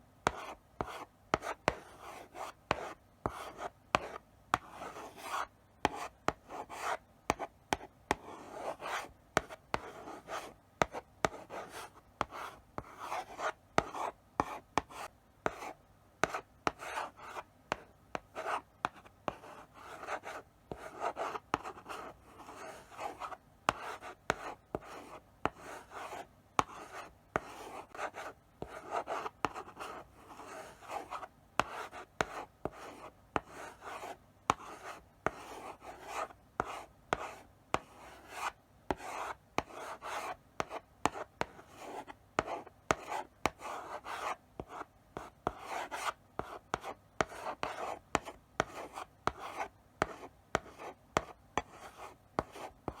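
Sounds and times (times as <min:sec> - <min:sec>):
chalk scratching on blackboard: 0:00.3 - 0:17.8, 0:18.4 - 0:53.0
chalk tapping on board: 0:00.3 - 0:53.0.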